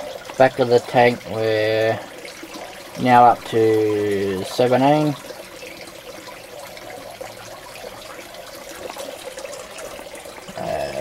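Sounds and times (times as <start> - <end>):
water trickling into tank: 0.0 - 11.0.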